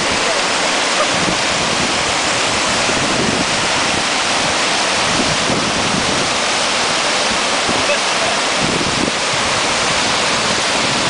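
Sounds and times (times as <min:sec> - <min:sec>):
whitewater pouring over a weir: 0:00.0 - 0:11.0.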